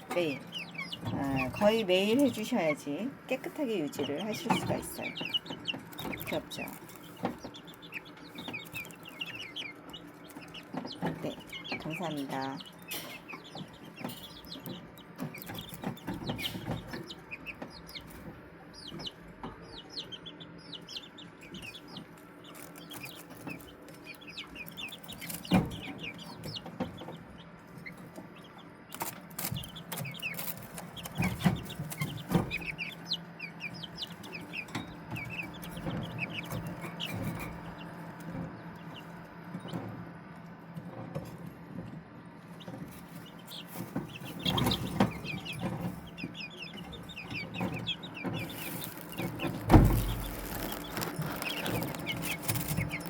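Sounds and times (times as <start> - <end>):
chicks peeping: 0.0 - 53.0
low steady hum: 0.0 - 53.0.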